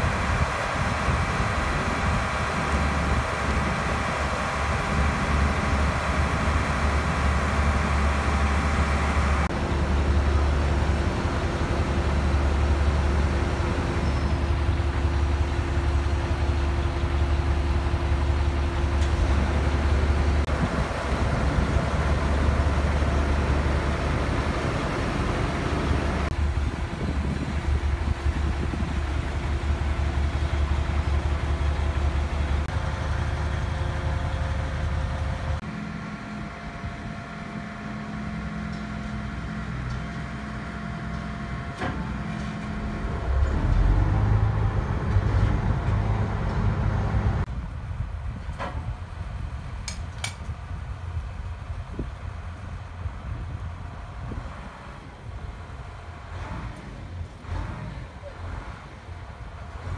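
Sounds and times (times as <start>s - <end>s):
diesel engine running: 0.0s - 59.9s
quieter engine hum: 0.0s - 59.9s.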